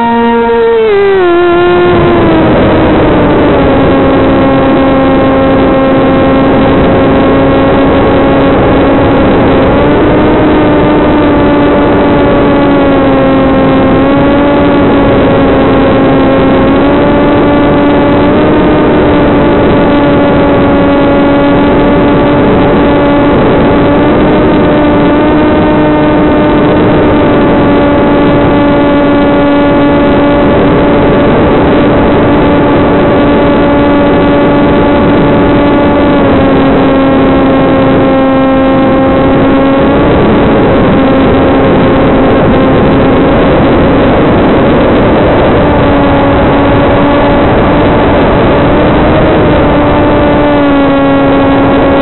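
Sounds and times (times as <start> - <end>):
electric motor and propeller drone: 0.0 - 52.0.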